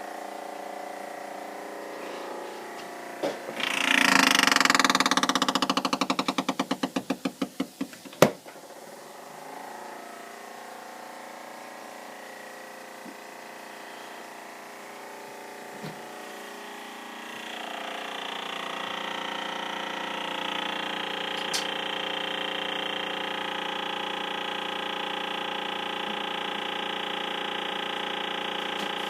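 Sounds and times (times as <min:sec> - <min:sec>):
freezer fan whirring: 0:00.0 - 0:29.0.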